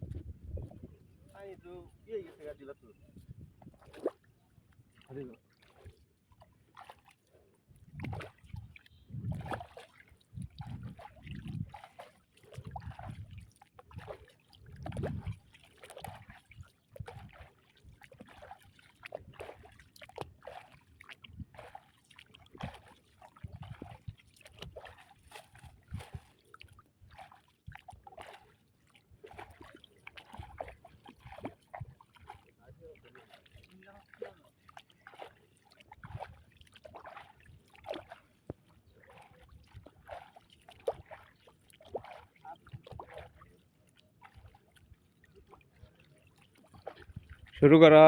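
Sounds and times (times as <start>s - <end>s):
water sloshing and splashing: 0.0s - 48.0s
water trickling and dripping: 7.8s - 48.0s.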